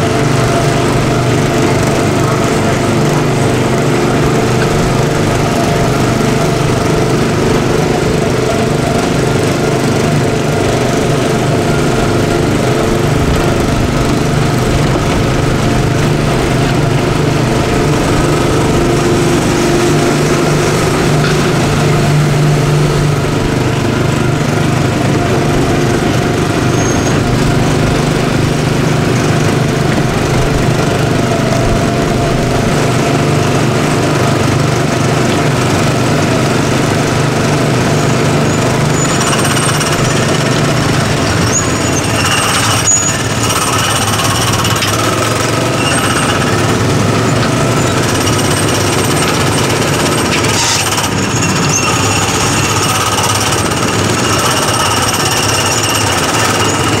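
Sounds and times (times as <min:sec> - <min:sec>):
small gasoline engine running: 0:00.0 - 0:57.0.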